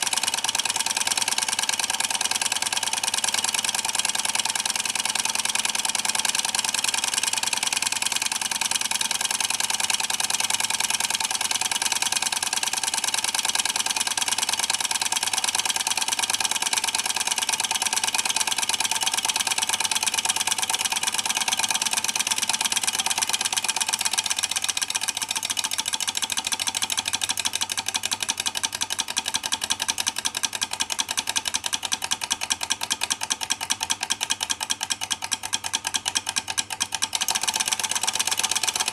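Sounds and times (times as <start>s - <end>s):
model engine mechanical clatter: 0.0s - 38.9s.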